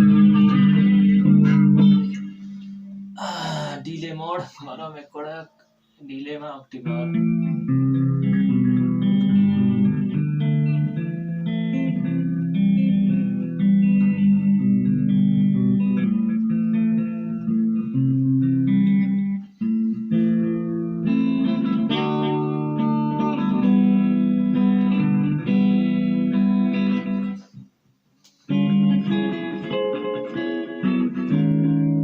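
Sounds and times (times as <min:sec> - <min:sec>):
electric guitar with delay: 0:00.0 - 0:04.0, 0:06.8 - 0:27.5, 0:28.5 - 0:32.0.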